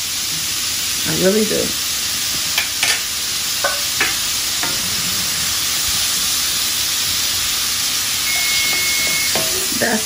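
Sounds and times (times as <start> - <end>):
vegetables sizzling in a skillet: 0.0 - 10.0.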